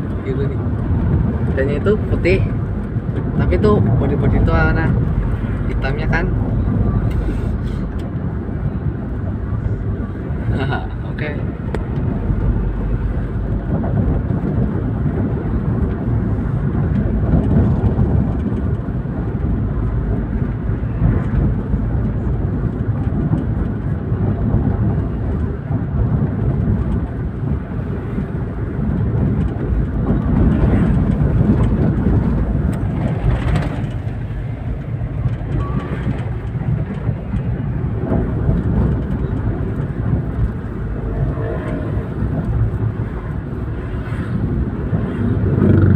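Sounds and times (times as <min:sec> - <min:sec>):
car engine rumble: 0:00.0 - 0:45.9.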